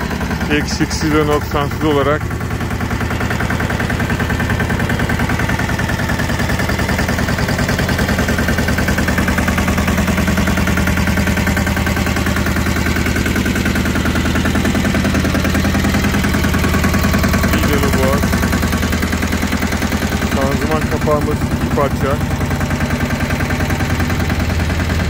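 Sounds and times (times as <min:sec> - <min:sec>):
tractor engine chugging: 0:00.0 - 0:25.0.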